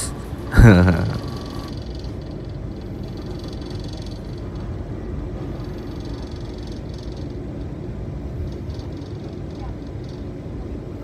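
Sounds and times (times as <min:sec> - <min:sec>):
train machinery hum: 0:00.0 - 0:11.0.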